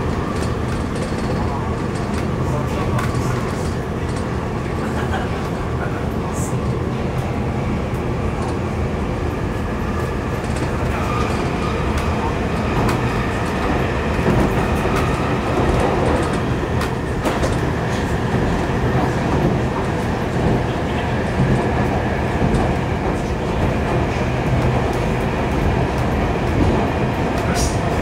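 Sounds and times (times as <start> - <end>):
train wheels rumbling: 0.0 - 28.0.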